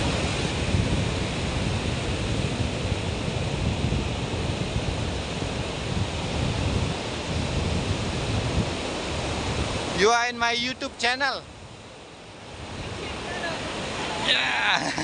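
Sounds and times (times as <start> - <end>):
ocean surf washing onto beach: 0.0 - 15.0
wind noise on microphone: 0.0 - 15.0.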